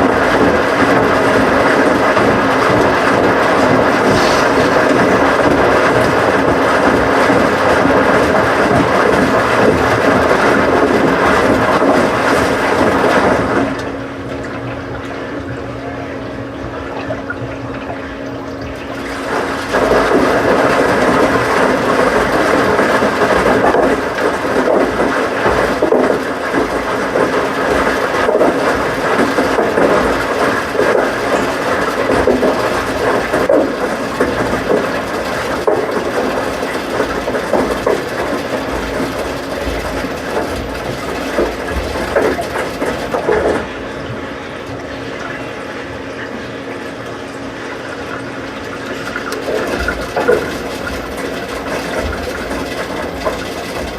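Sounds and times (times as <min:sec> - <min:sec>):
washing machine mechanical rumble: 0:00.0 - 0:53.9
washing machine water churning: 0:00.0 - 0:53.9.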